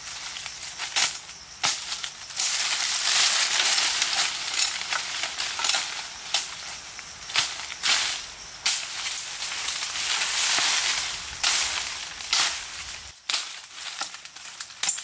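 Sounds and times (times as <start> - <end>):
leafy branches rustling: 0.0 - 15.0
twigs snapping: 0.3 - 6.7, 8.6 - 15.0.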